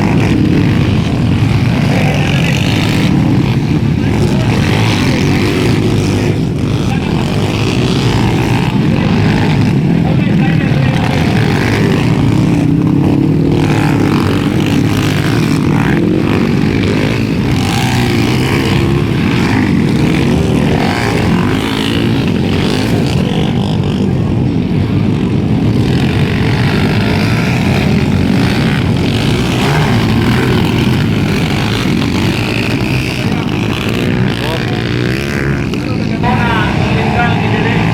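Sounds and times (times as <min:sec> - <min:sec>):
motorcycle engines racing: 0:00.0 - 0:37.9.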